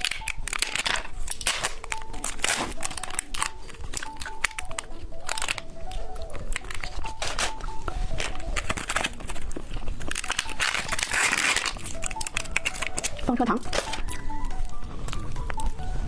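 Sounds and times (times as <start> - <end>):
plastic wrapper crinkling: 0.0 - 15.8
person chewing candy: 0.0 - 16.0
simple background melody: 0.0 - 16.0.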